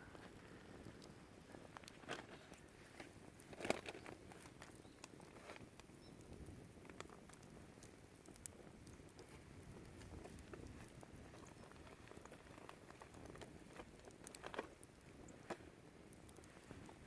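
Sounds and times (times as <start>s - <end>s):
low rush of flame: 0.0s - 17.0s
wood fire crackling and popping: 0.0s - 17.0s.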